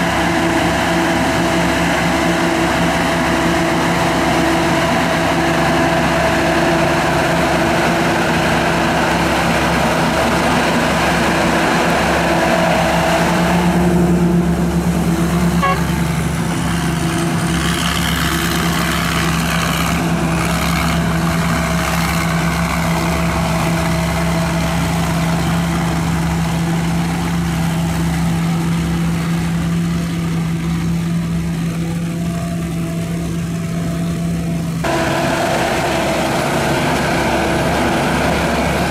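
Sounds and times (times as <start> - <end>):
broad rushing noise: 0.0 - 31.9, 34.7 - 38.9
combine harvester engine running: 0.0 - 38.9.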